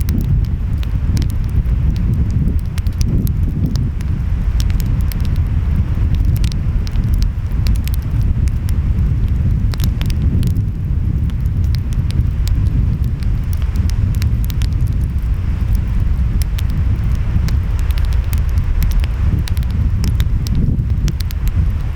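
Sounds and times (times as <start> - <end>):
wind: 0.0 - 21.9
wood fire crackling and popping: 0.0 - 21.9.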